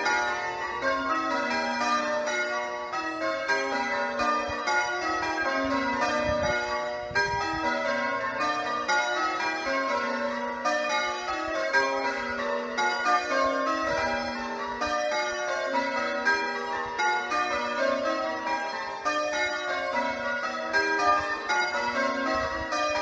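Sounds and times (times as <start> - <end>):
church bells change ringing: 0.0 - 23.0.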